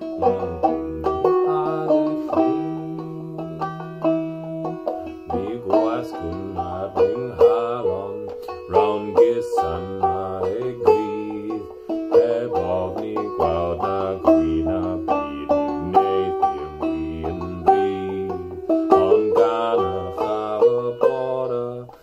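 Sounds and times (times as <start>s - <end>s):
banjo strumming: 0.0s - 22.0s
man singing folk song: 0.0s - 22.0s.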